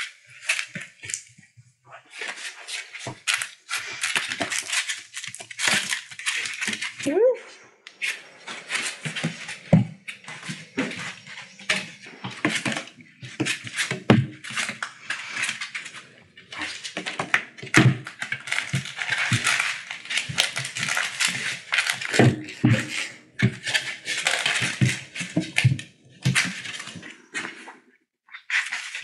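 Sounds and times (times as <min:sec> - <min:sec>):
puppy claws clicking on floor: 0:00.0 - 0:07.1, 0:07.9 - 0:27.8.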